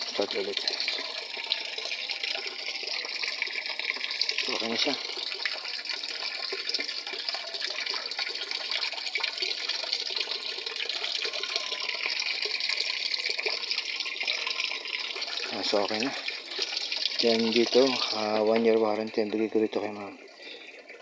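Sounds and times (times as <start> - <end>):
water pouring into washing machine: 0.0 - 21.0.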